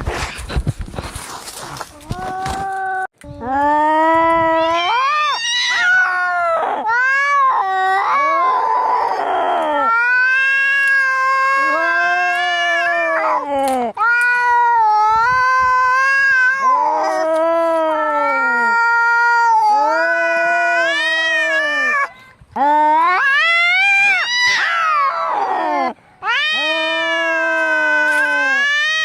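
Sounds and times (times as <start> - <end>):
cats yowling: 4.4 - 22.1, 22.7 - 29.0.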